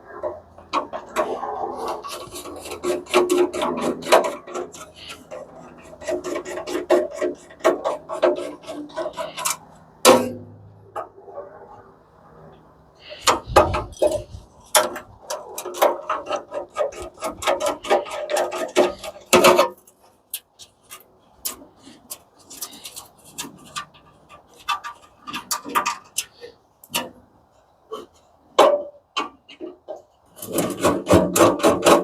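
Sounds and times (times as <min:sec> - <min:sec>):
hand tools clicking and scraping: 0:00.0 - 0:32.0.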